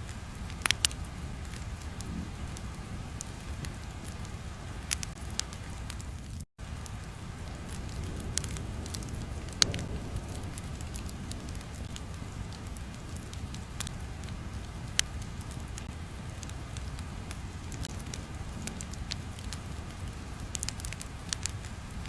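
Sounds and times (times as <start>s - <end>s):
fire popping and snapping: 0.0s - 22.0s
fire rumbling: 0.0s - 22.0s.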